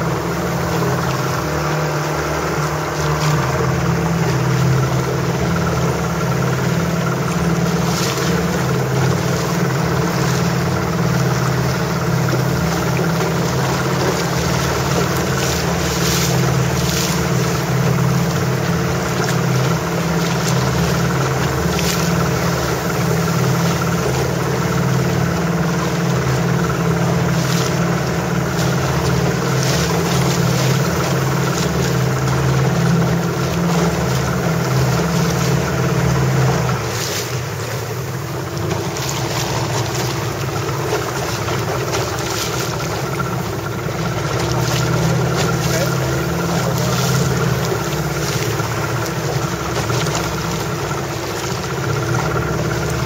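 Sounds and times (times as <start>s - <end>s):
boat engine humming: 0.0s - 53.0s
water wash: 0.0s - 53.0s.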